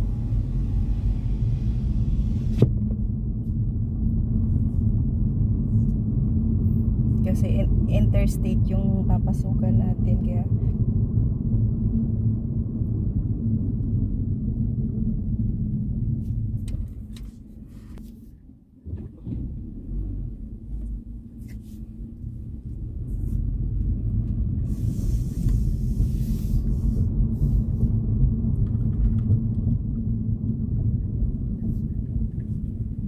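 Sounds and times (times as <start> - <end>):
road and engine rumble in car: 0.0 - 33.0.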